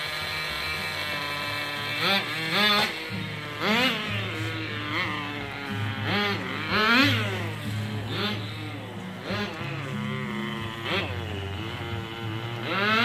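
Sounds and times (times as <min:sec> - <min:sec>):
small engine high-pitched buzz: 0:00.0 - 0:13.0.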